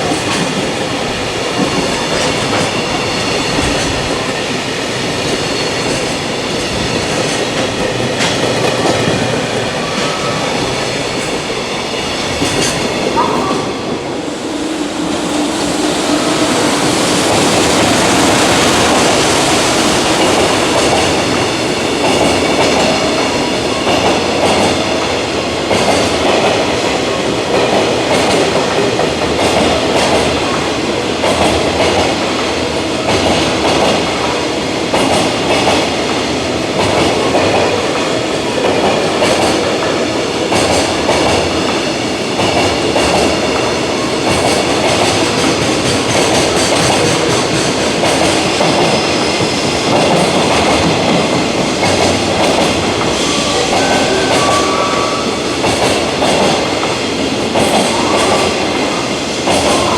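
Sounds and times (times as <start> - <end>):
freight train rolling past: 0.0 - 59.9
high ringing from train wheels: 0.0 - 59.9.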